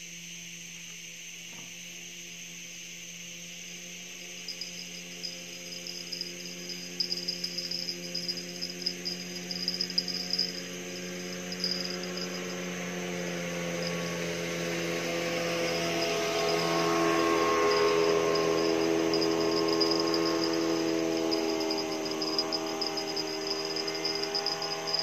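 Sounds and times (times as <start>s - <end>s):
high pulsing chirps: 4.2s - 25.0s
small boat engine running: 4.4s - 25.0s.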